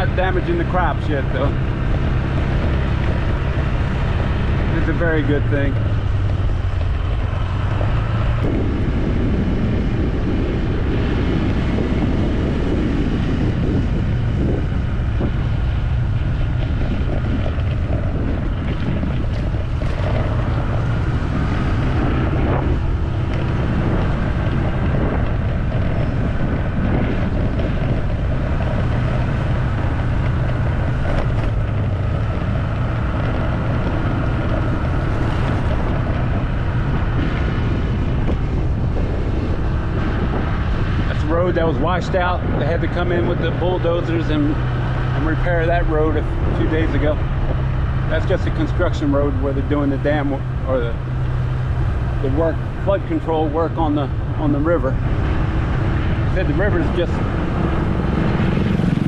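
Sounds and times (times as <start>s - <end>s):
engine drone: 0.0s - 59.0s
road noise: 0.0s - 59.0s
wind buffeting microphone: 0.0s - 59.0s.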